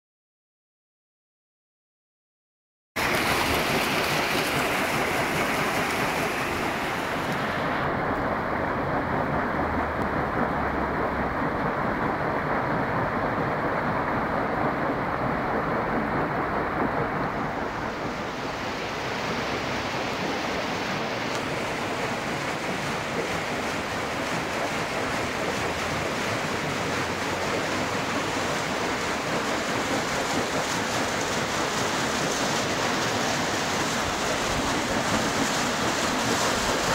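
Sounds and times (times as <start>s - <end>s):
rushing stream water: 3.0s - 36.9s.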